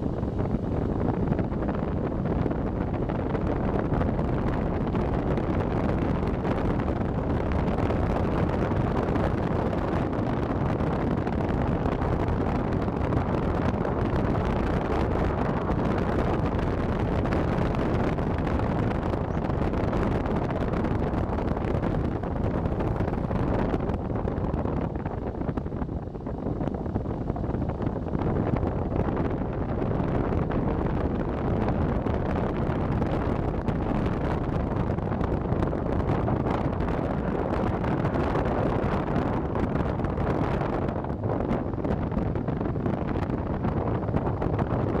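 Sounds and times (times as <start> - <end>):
vehicle engine and tyre rumble: 0.0 - 45.0
wind rushing over microphone: 0.0 - 45.0.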